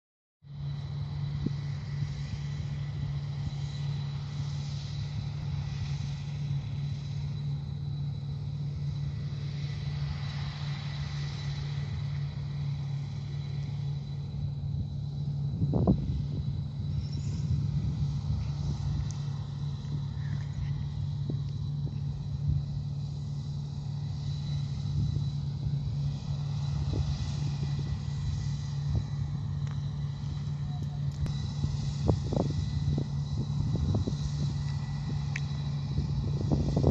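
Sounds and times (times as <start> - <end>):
farm machinery engine droning: 0.4 - 36.9
high whine: 0.4 - 36.9
wind rumbling on microphone: 0.5 - 36.9.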